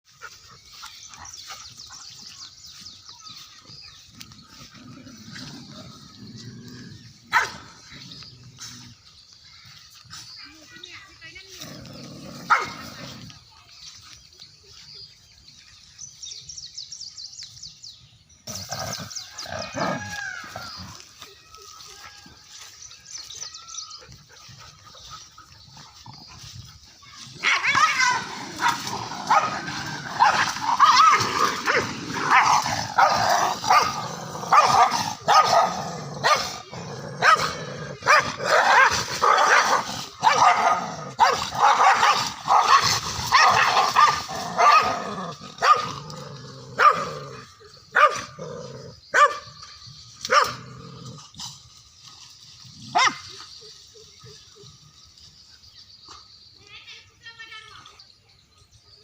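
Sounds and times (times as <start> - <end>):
dogs snarling and barking: 0.1 - 10.3, 11.3 - 13.6, 18.4 - 55.4.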